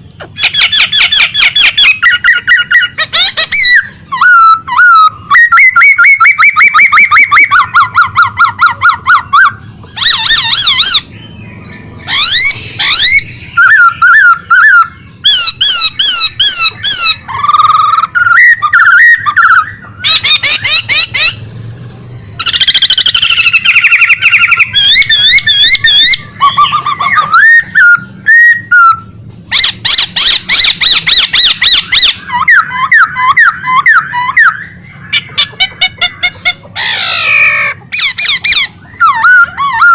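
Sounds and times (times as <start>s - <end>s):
songbird trilling and whistling: 0.0s - 39.9s.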